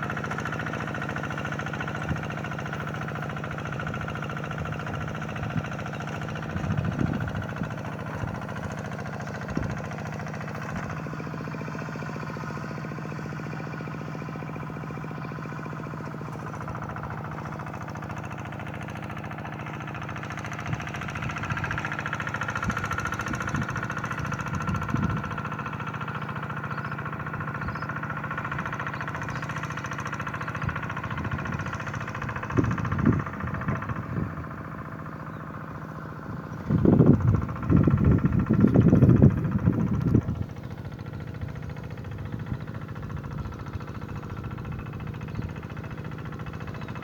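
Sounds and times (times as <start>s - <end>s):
hand tractor engine running: 0.0s - 47.0s.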